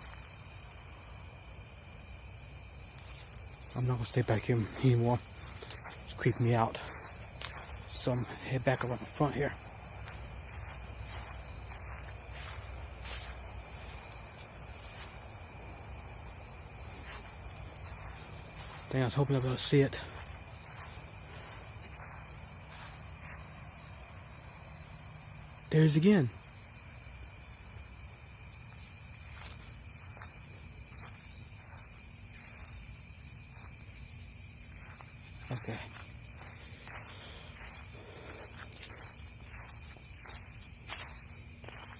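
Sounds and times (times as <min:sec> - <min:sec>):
night insects chirping: 0:00.0 - 0:41.9.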